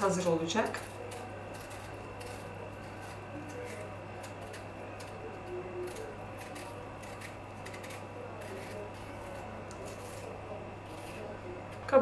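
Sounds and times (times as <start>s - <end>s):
knife scraping peach skin: 0.0s - 11.9s
steady low hum: 0.0s - 12.0s.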